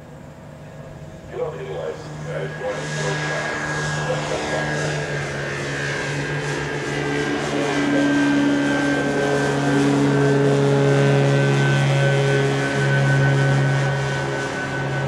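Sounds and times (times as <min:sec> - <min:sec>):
propeller hum overhead: 0:00.0 - 0:15.0.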